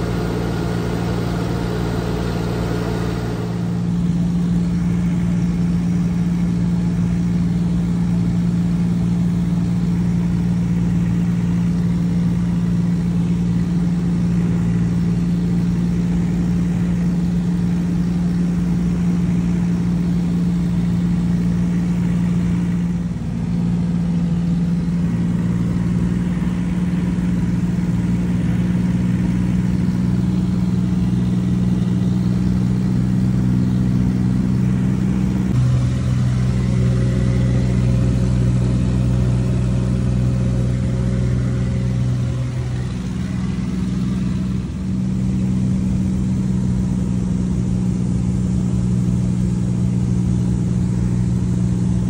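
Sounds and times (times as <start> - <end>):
propeller aircraft engine drone: 0.0 - 52.0.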